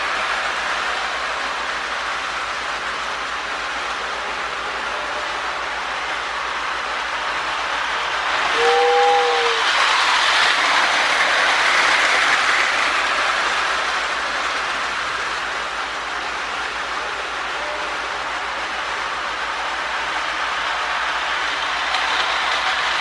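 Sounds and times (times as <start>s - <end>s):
toy train motor and wheel hum: 0.0s - 23.0s.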